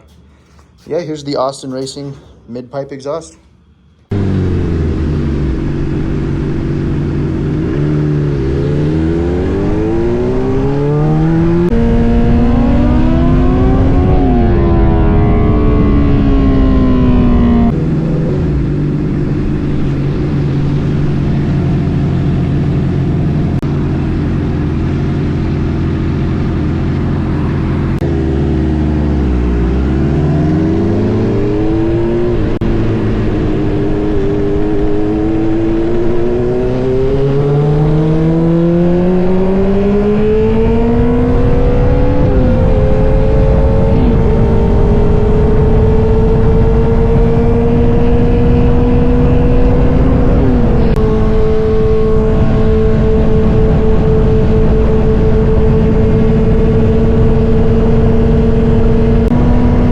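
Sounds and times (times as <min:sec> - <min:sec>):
motorcycle engine revving: 0:03.2 - 0:59.9.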